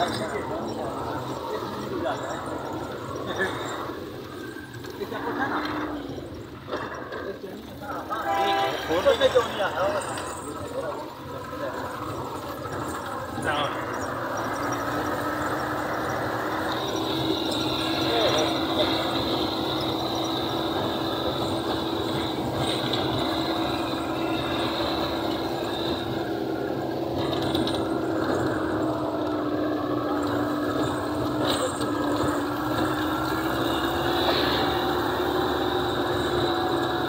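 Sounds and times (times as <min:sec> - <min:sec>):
jeep engine running: 0:00.0 - 0:37.0
vehicle body rattling: 0:00.0 - 0:37.0.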